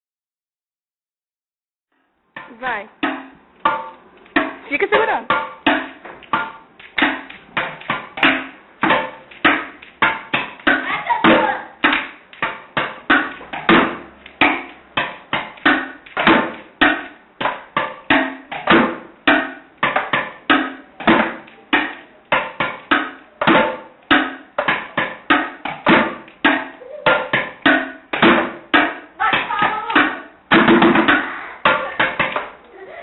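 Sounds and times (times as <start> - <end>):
sticks drumming on plastic buckets: 2.3 - 33.0.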